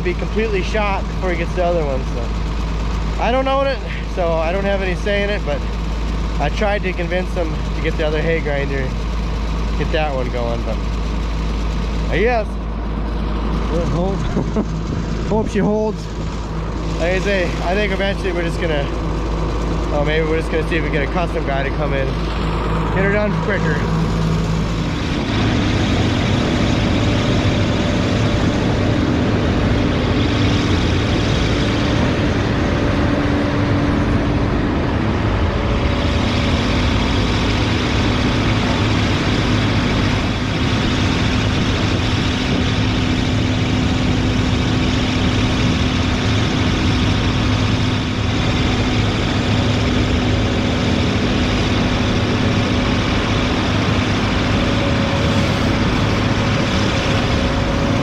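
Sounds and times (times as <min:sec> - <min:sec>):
tractor and hay grinder running: 0:00.0 - 0:58.0.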